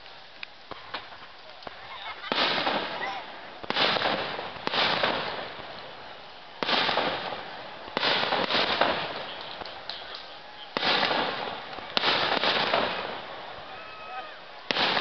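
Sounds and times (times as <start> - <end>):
fireworks booming overhead: 0.0 - 15.0.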